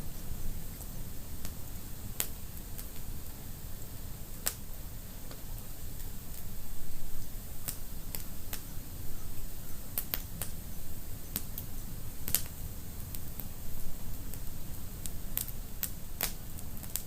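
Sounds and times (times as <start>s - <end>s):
low rumble of flames: 0.0s - 17.0s
wood fire crackling and popping: 0.1s - 3.4s, 4.3s - 6.6s, 7.2s - 8.8s, 9.7s - 17.0s.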